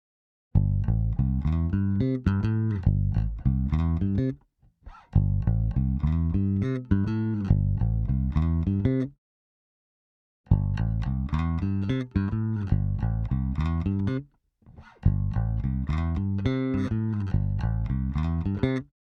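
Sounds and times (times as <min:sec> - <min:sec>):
plucked bass guitar notes: 0:00.6 - 0:09.1, 0:10.5 - 0:18.9.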